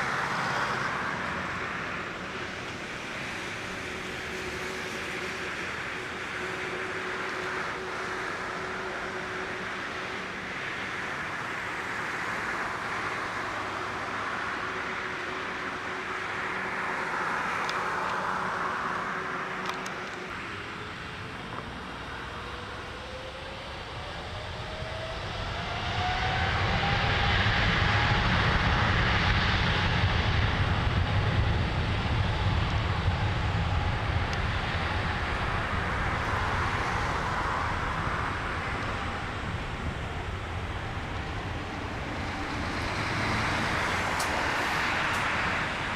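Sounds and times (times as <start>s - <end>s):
jet engines spooling up: 0.0s - 45.9s.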